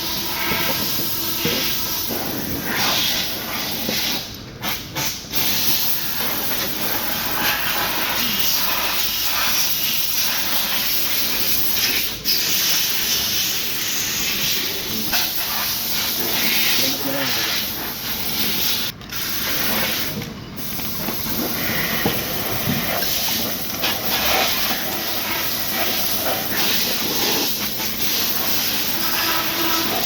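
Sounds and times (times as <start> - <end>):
loud hissing spray: 0.0 - 30.0.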